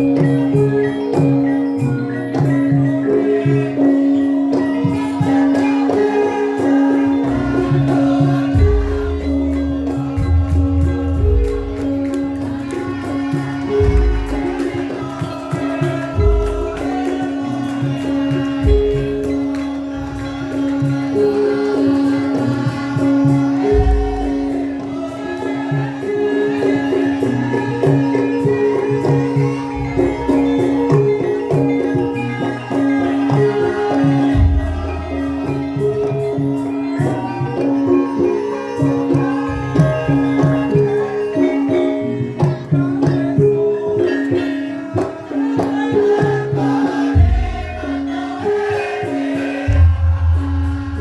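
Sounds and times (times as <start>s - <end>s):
jingling percussion: 0.0s - 51.0s.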